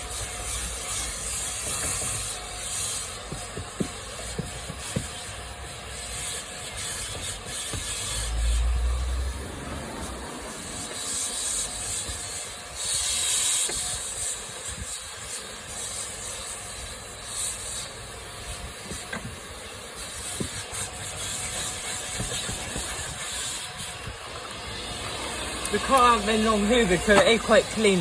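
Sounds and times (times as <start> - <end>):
vacuum cleaner hissing: 0.0 - 28.0.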